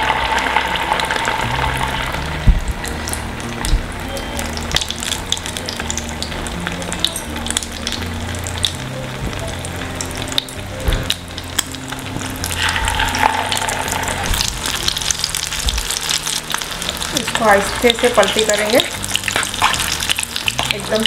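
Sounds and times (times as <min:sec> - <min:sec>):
patties sizzling in hot oil: 0:00.0 - 0:21.0.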